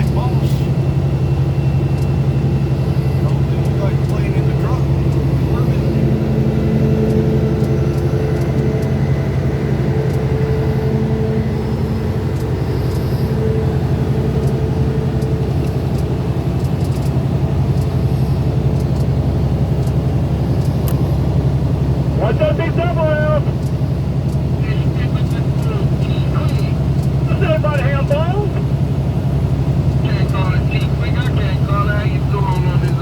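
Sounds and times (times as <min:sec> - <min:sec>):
engine droning: 0:00.0 - 0:33.0.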